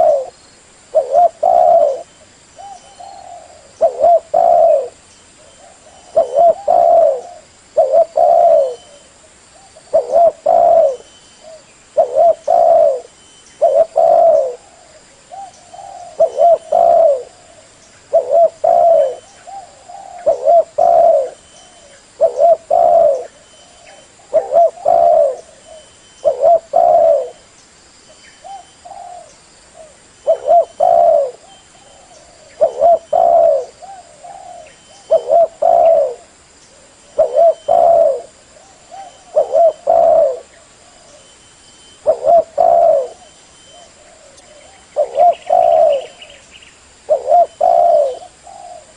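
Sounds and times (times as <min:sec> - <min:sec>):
dove cooing: 0:00.0 - 0:27.4, 0:28.4 - 0:46.4, 0:47.0 - 0:48.9.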